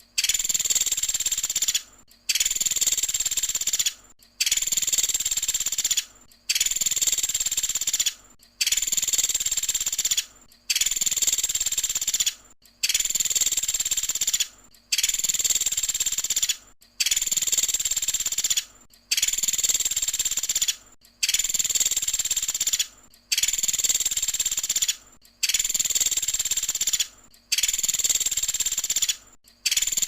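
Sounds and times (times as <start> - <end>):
woodpecker rattling call: 0.2 - 30.0.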